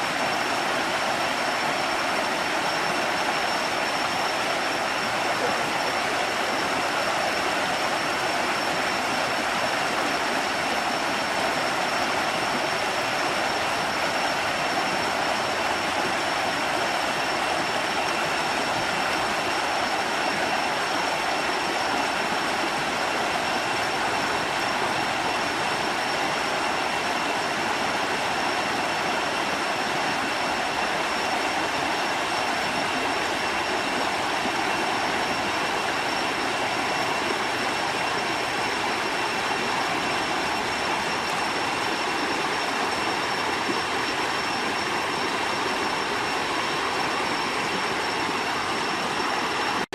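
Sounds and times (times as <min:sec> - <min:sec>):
waterfall roaring: 0:00.0 - 0:49.9.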